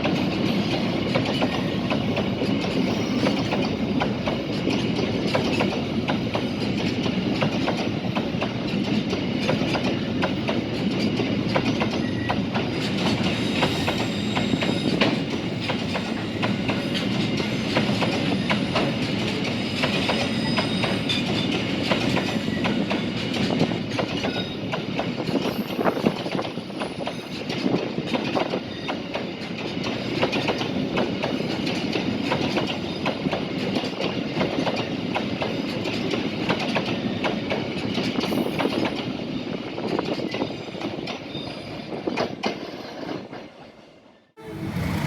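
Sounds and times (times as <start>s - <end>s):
train rumble: 0.0s - 39.1s, 44.3s - 45.0s
train wheels clattering over rails: 0.0s - 43.8s.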